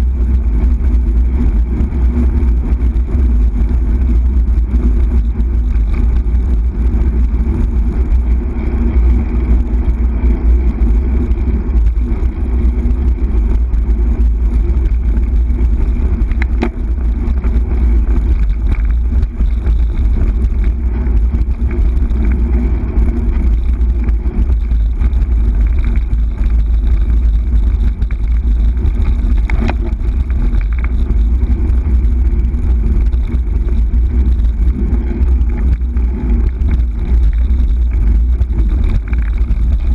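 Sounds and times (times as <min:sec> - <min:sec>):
tyres rumbling on tarmac: 0:00.0 - 0:39.9
wind buffeting microphone: 0:00.0 - 0:39.9.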